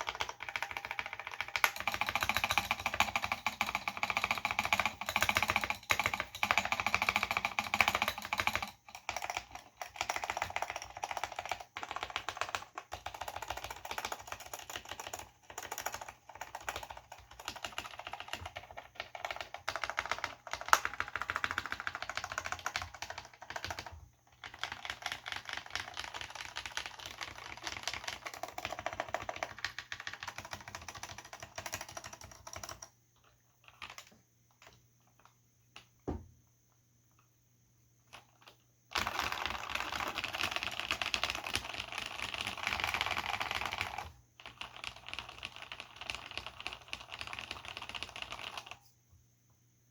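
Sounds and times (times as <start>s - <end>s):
fast keyboard typing: 0.0s - 36.0s, 38.1s - 48.8s.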